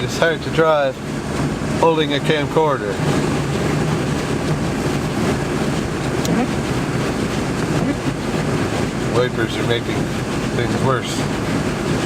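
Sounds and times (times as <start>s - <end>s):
car engine driving: 0.0s - 12.0s.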